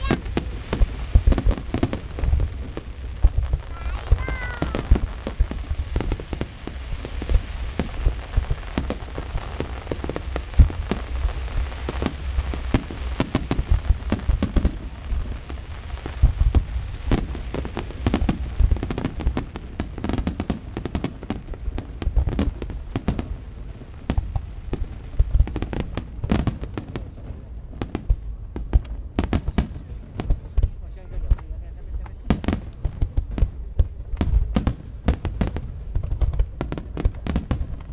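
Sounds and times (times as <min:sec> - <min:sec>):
deep fireworks booms: 0:00.0 - 0:37.9
fireworks cracks and bangs: 0:00.0 - 0:37.9.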